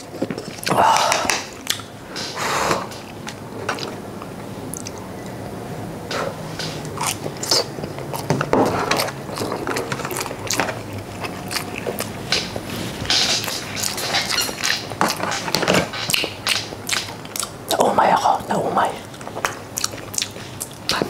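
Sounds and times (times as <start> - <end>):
man chewing food: 0.0 - 21.0.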